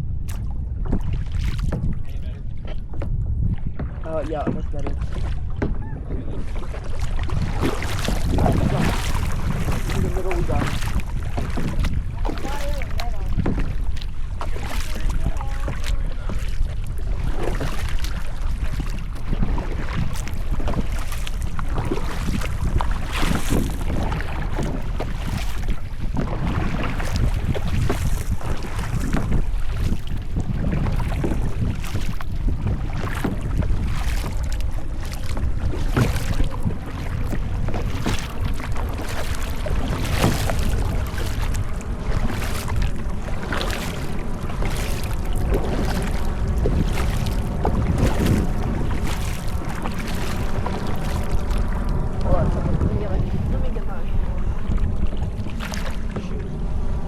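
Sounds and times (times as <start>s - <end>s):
paddle splashing water: 0.0s - 57.0s
wind buffeting microphone: 0.0s - 57.0s.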